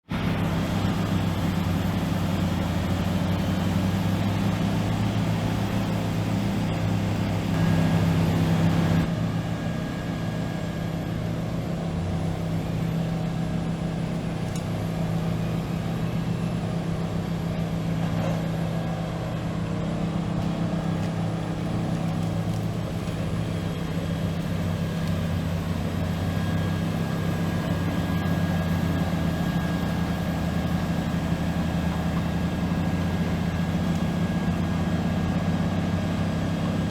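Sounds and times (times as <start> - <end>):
heavy diesel engine humming: 0.0 - 36.9.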